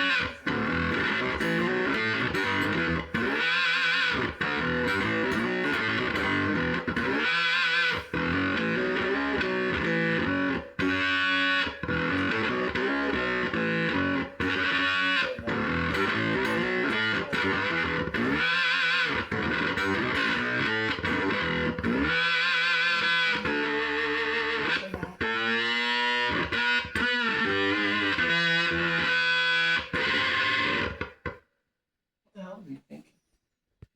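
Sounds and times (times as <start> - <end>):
distorted electric guitar: 0.0 - 31.4.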